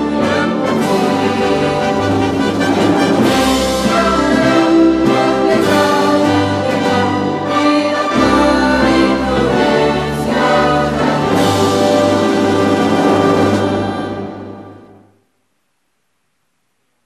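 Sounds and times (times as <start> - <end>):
orchestral music with brass: 0.0 - 15.1.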